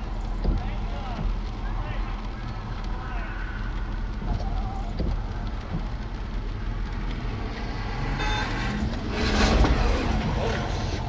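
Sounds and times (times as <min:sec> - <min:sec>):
road vehicle noise: 0:00.0 - 0:11.0
wind rumble: 0:00.0 - 0:11.0.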